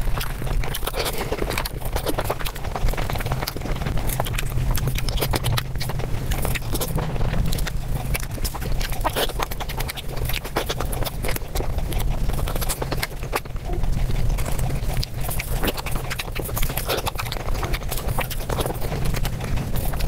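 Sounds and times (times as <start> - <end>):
fast chewing and mouth sounds: 0.0 - 20.0
steady low hum: 0.0 - 20.0.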